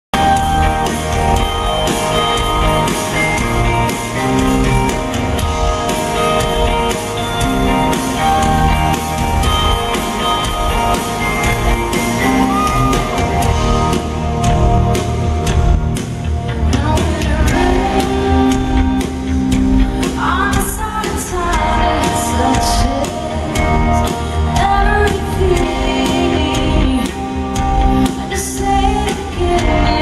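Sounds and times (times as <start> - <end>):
live rock band playing: 0.1 - 30.0.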